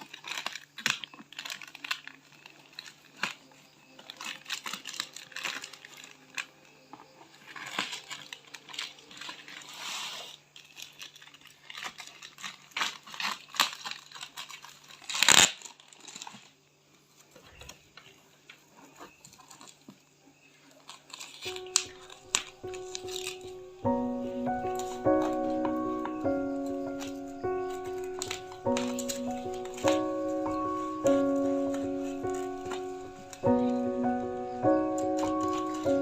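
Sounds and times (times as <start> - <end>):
packaging crinkling and tearing: 0.0 - 20.0, 20.6 - 36.0.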